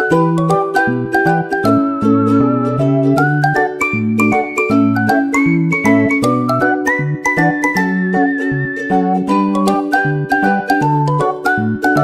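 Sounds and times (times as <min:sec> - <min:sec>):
upbeat children's music: 0:00.0 - 0:12.0.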